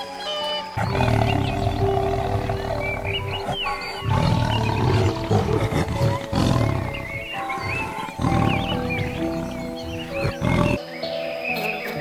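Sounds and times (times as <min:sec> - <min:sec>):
soft instrumental music: 0:00.0 - 0:12.0
tiger growling: 0:00.8 - 0:10.8.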